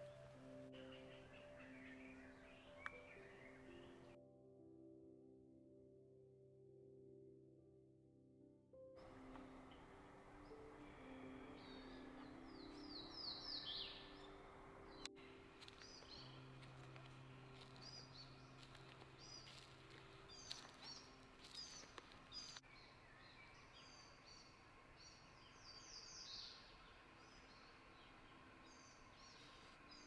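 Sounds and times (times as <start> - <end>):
songbirds chirping and singing: 0.0 - 4.2, 9.0 - 30.0.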